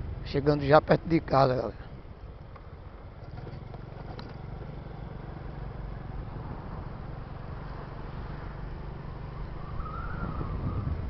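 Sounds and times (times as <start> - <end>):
vehicle engine and road hum: 0.0 - 11.0.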